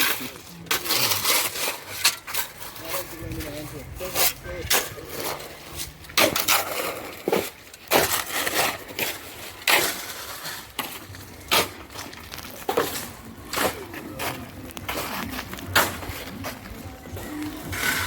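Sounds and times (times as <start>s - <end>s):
shovels scraping wet concrete: 0.0s - 18.0s.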